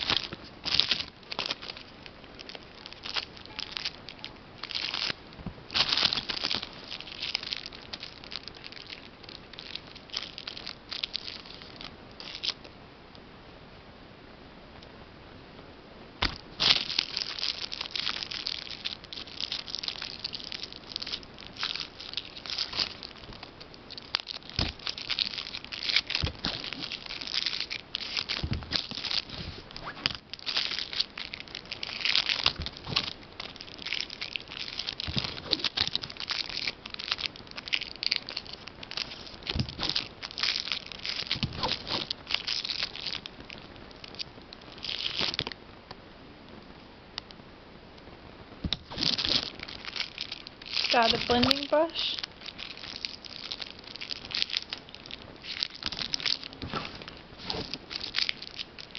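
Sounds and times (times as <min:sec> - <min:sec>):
plastic packaging crinkling: 0:00.0 - 0:12.7, 0:16.2 - 0:45.6, 0:48.7 - 0:58.9.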